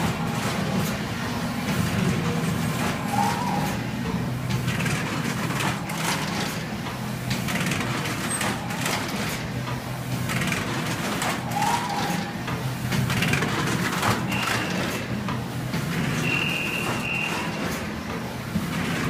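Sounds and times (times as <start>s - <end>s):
printing press running: 0.0s - 19.0s.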